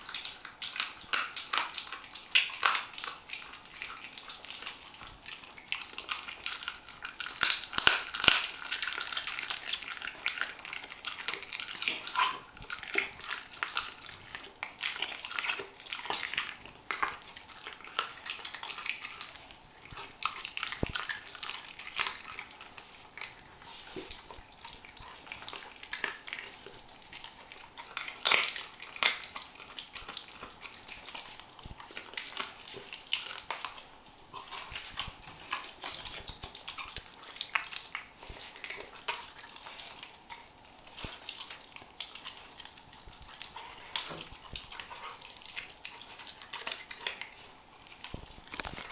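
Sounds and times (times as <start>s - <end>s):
puppy chewing chicken wing: 0.0s - 48.9s.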